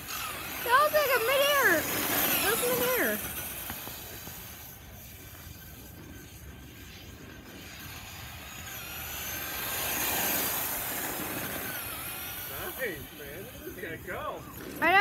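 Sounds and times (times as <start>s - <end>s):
rc car electric motor whining: 0.0s - 15.0s.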